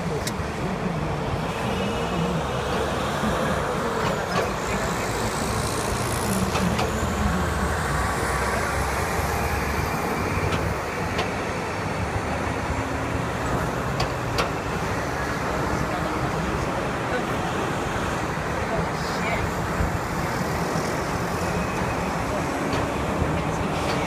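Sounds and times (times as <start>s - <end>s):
highway traffic passing: 0.0s - 24.0s.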